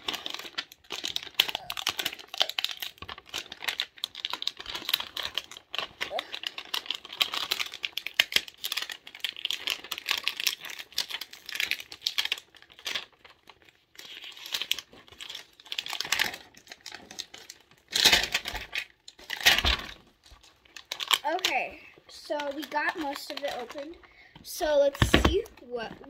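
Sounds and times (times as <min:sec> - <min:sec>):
packaging crinkling and tearing: 0:00.0 - 0:26.0.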